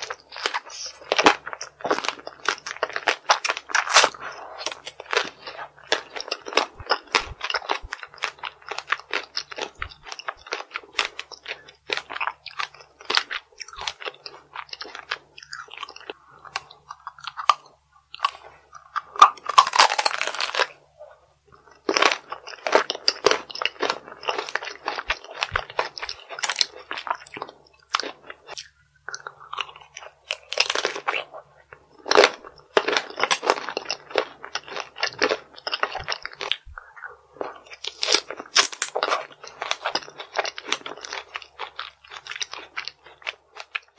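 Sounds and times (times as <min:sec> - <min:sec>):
crunching and chewing candy: 0:00.0 - 0:43.9.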